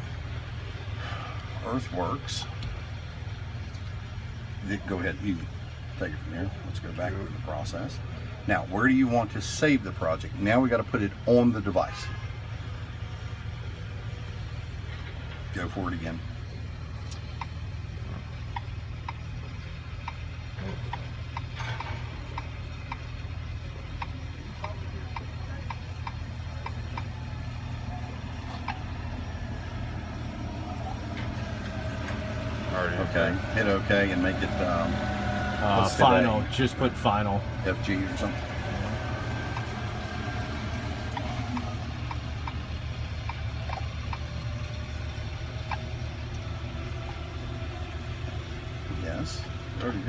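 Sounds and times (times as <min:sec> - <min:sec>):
diesel engine idling: 0:00.0 - 0:50.0
light even ticking: 0:00.0 - 0:50.0.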